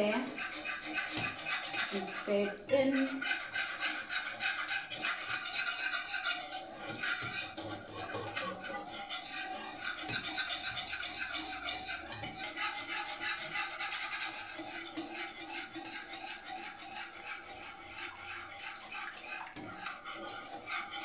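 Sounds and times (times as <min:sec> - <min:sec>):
wire whisk scraping a pan: 0:00.0 - 0:21.0.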